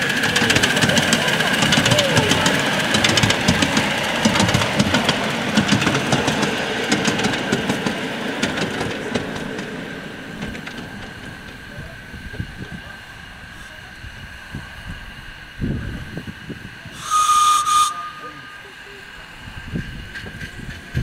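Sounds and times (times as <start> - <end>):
wheels clicking on track: 0.0 - 14.0, 17.0 - 21.0
model train whine: 0.0 - 21.0.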